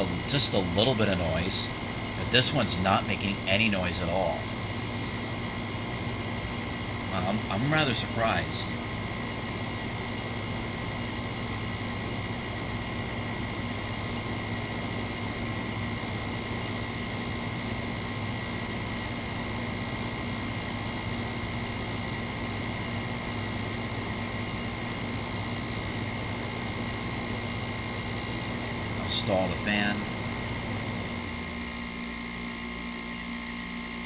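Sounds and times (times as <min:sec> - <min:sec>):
air conditioner fan humming: 0:00.0 - 0:34.0.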